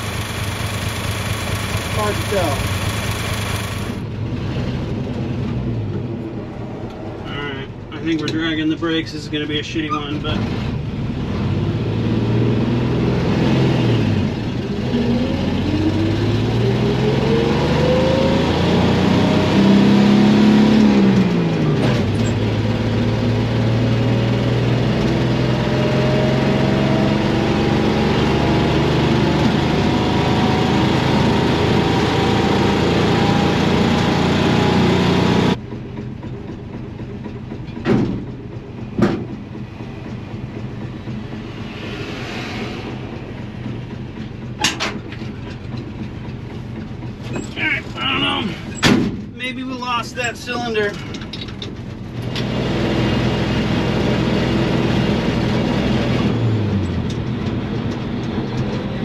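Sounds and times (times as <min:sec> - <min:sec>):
truck engine accelerating: 0:00.0 - 0:59.0.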